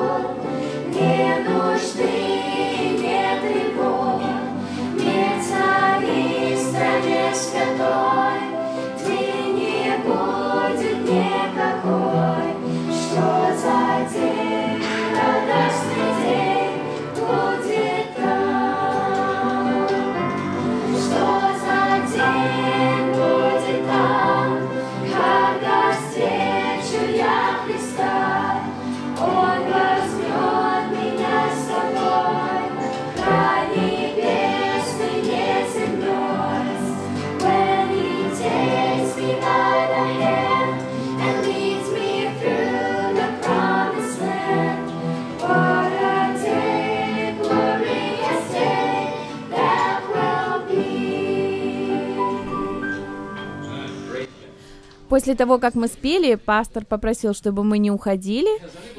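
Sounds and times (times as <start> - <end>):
group of people singing: 0.0 - 54.8.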